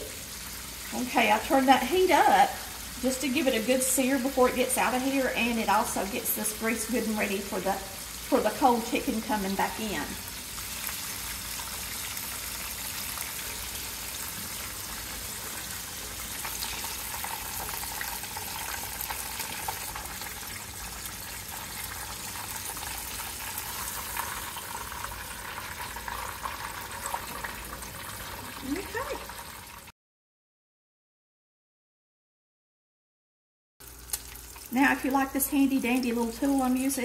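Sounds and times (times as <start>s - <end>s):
chicken sizzling in hot oil: 0.0s - 29.9s, 33.8s - 37.0s.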